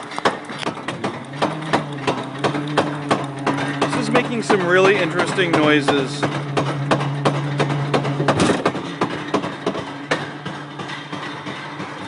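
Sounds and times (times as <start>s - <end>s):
roller coaster wheels clicking: 0.0s - 12.0s
steady hum: 0.0s - 12.0s.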